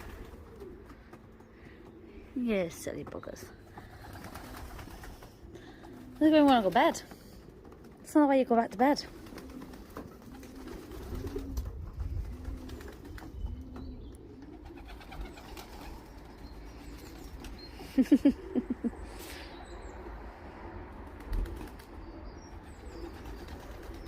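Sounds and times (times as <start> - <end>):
pigeons cooing: 0.0 - 8.1, 8.7 - 24.0.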